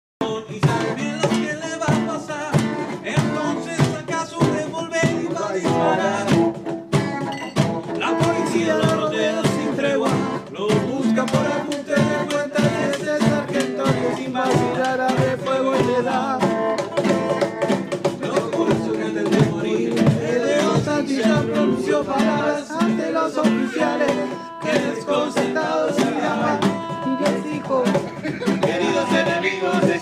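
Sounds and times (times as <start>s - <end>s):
acoustic guitar strumming: 0.2s - 30.0s
cajon beaten by hand: 0.2s - 30.0s.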